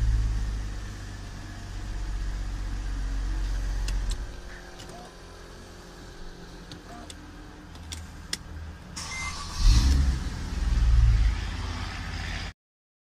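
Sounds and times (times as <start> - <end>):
car engine starting and idling: 0.0 - 12.5.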